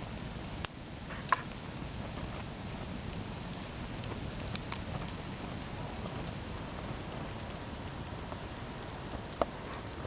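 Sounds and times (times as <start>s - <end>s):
campfire hissing and crackling: 0.0s - 10.0s.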